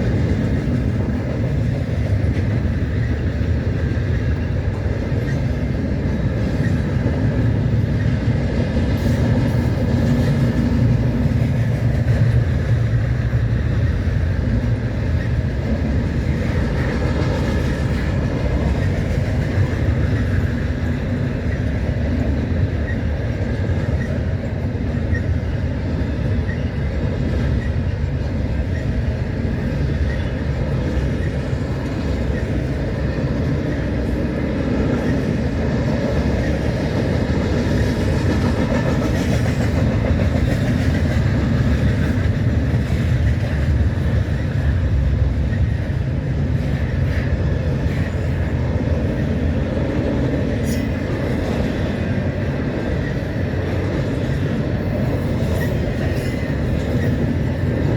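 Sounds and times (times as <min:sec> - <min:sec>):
freight train wheels rumbling: 0:00.0 - 0:57.9
rail clicks: 0:00.0 - 0:57.9.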